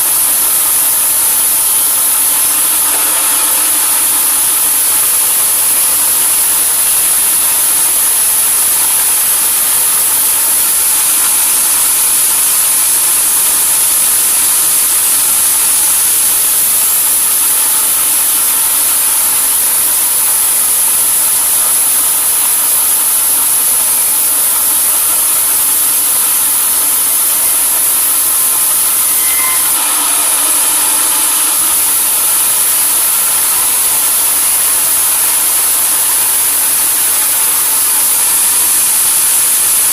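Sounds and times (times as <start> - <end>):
high-pitched machine whine: 0.0 - 39.9
sawmill machinery running: 0.0 - 39.9.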